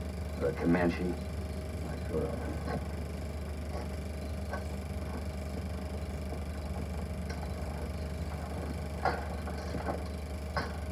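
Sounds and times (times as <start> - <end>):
film projector humming: 0.0 - 10.9.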